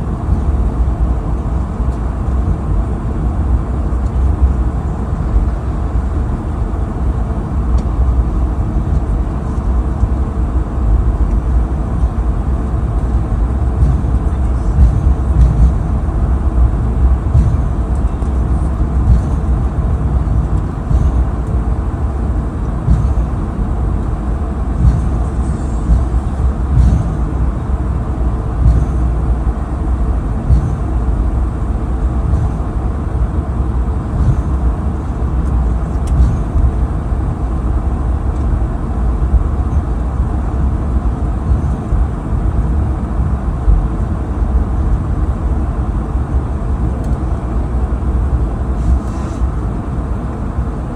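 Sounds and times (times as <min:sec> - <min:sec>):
low rumble inside moving vehicle: 0:00.0 - 0:50.9.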